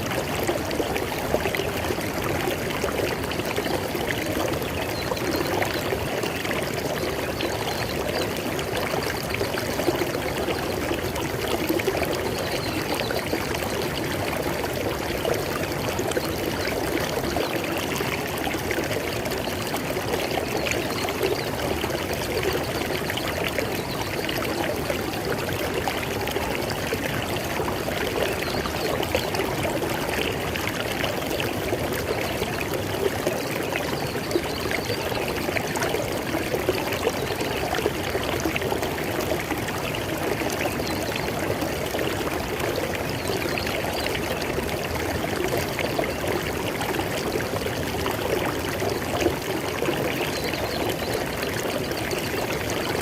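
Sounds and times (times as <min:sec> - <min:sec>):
river water flowing over rocks: 0:00.0 - 0:53.0.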